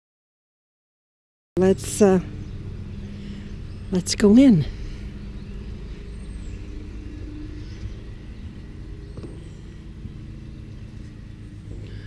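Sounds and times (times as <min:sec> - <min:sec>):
low outdoor rumble: 0:01.6 - 0:12.0
faint high chirp: 0:02.3 - 0:12.0.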